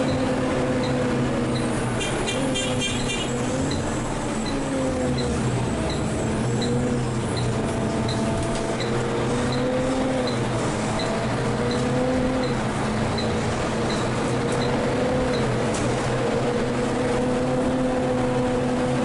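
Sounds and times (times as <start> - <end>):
bus diesel engine drone: 0.0 - 19.0.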